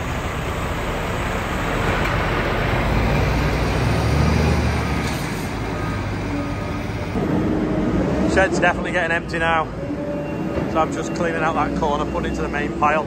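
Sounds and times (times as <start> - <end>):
diesel lorry engine running: 0.0 - 13.0.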